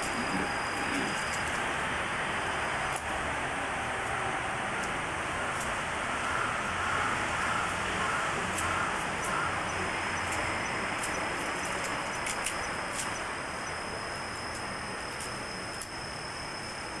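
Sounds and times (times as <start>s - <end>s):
faint high whine: 0.0s - 17.0s
videotape hiss: 0.0s - 17.0s.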